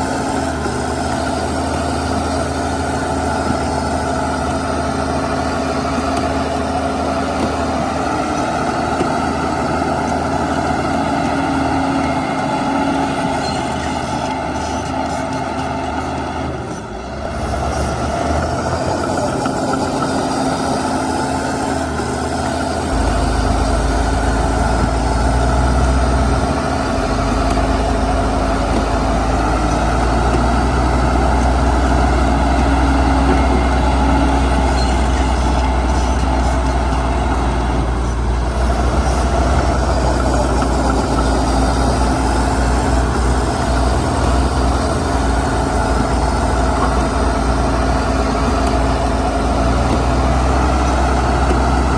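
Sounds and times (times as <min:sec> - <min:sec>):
heavy diesel machinery rumbling: 0:00.0 - 0:51.9.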